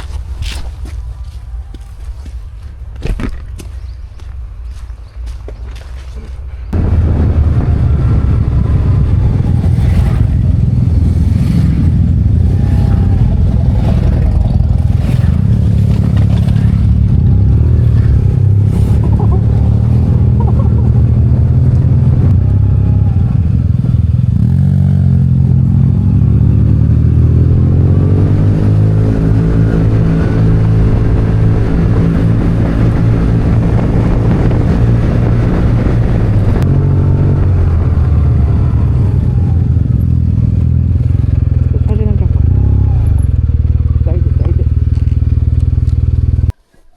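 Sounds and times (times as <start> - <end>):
scooter engine running: 6.7 - 46.6.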